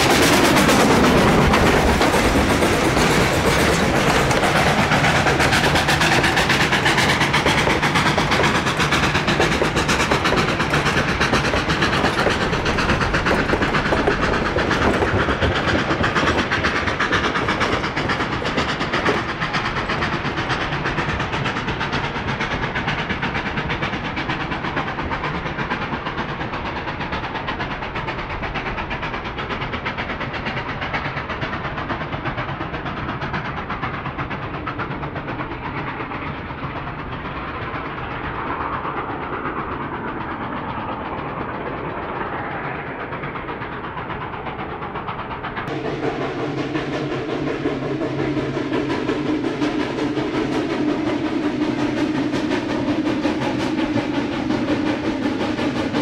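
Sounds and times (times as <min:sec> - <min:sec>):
train cars rattling on rails: 0:00.0 - 0:56.0.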